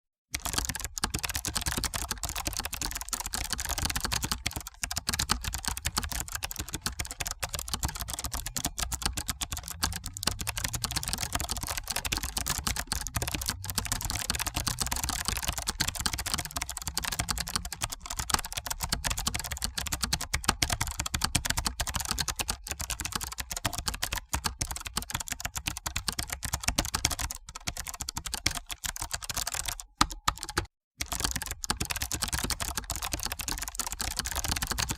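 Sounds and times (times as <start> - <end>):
fast typing on a keyboard: 0.3 - 34.9.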